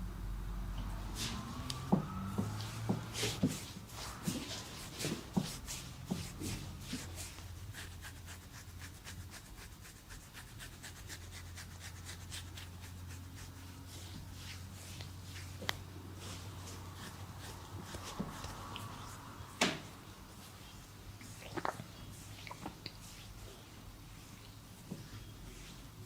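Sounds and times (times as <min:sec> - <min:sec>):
hands rubbing skin and hair: 0:01.1 - 0:26.0.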